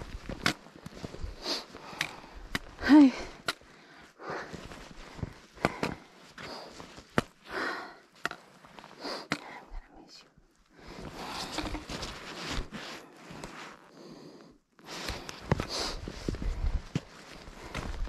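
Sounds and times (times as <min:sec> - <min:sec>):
person breathing hard: 0:01.0 - 0:09.7, 0:10.7 - 0:13.2, 0:13.8 - 0:18.0.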